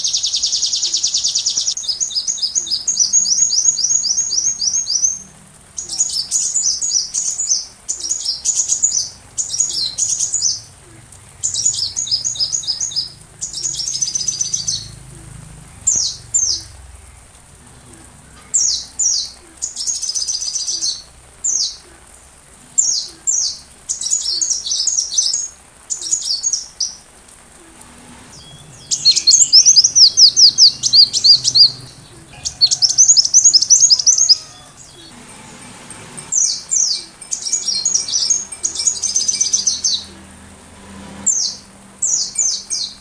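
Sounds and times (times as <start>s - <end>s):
sunbird chirps and trills: 0.0s - 21.8s, 28.2s - 43.0s
faint steady hiss: 0.0s - 43.0s.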